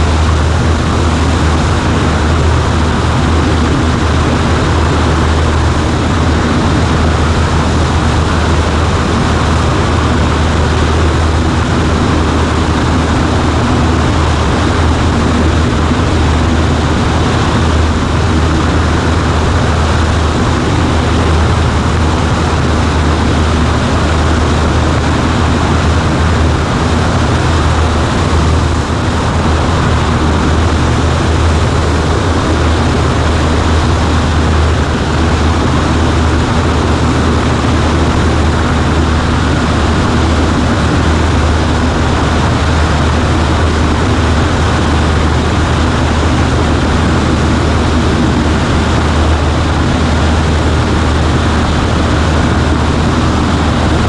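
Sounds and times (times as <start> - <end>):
light plane engine droning: 0.0 - 54.0.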